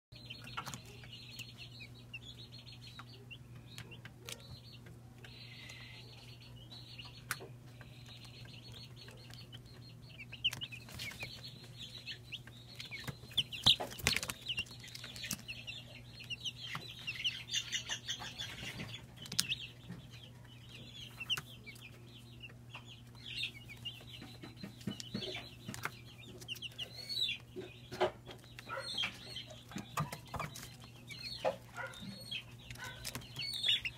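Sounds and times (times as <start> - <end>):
chicks peeping: 0.2 - 33.9.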